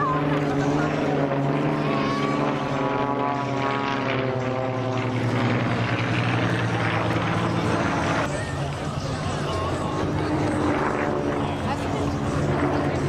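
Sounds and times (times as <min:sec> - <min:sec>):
propeller planes droning overhead: 0:00.0 - 0:13.0.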